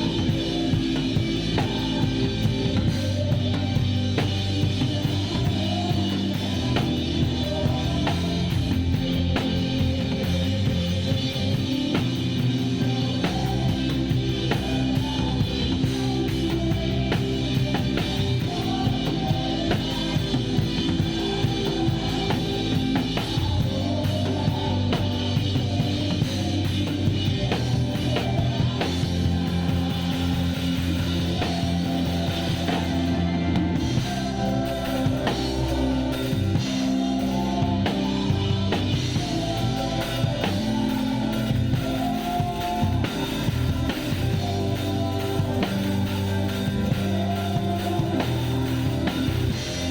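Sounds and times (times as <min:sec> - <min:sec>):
band sustained instruments: 0:00.0 - 0:49.9
drum kit rock groove: 0:00.0 - 0:49.9.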